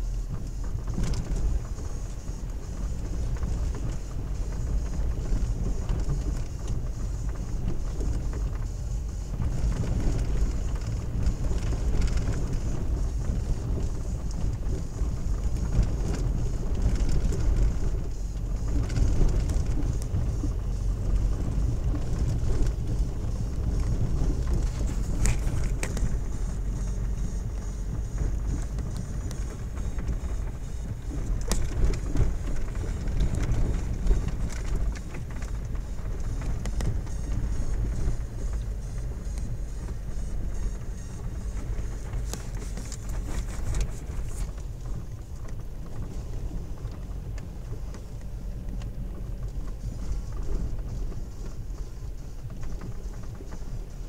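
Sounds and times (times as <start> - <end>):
low rumble of engine and tyres: 0.0 - 54.0.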